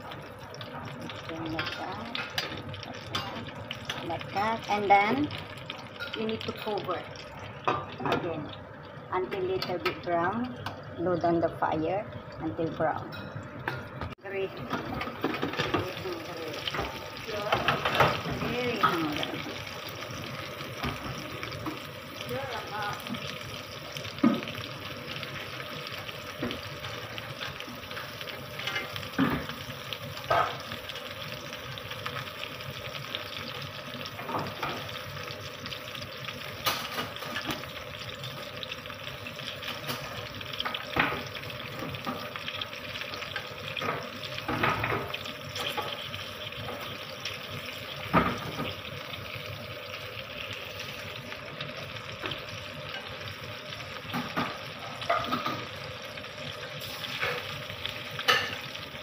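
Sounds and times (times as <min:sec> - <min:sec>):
chillies sizzling in oil: 0:00.0 - 0:59.0.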